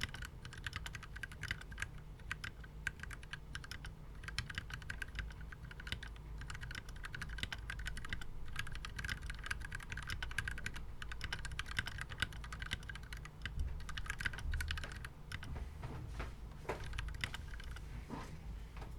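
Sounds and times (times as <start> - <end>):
mechanical keyboard typing: 0.0 - 15.5, 16.8 - 17.8.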